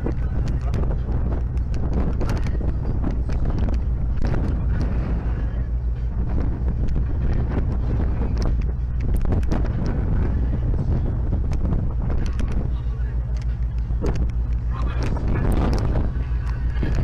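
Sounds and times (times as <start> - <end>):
steady low rumble: 0.0 - 17.0
wind buffeting the microphone: 0.0 - 17.0.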